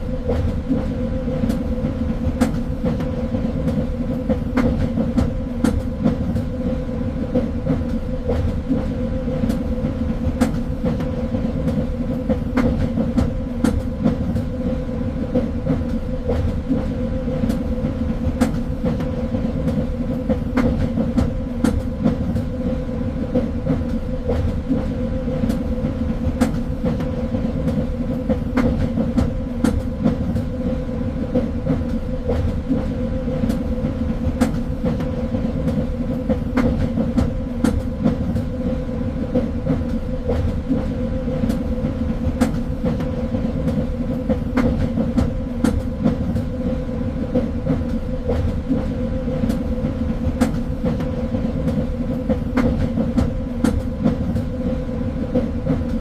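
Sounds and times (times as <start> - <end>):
train rumble and hum: 0.0 - 56.0.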